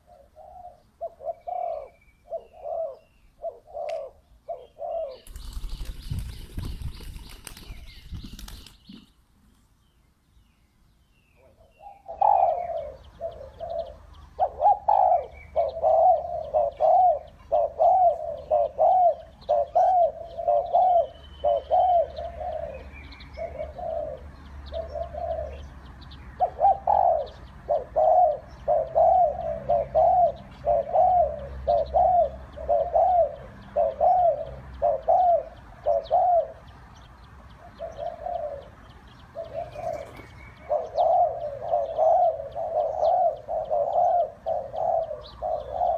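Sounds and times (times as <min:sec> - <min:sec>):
dove cooing: 0:00.0 - 0:08.7, 0:11.4 - 0:25.7, 0:26.4 - 0:36.7, 0:37.6 - 0:45.9.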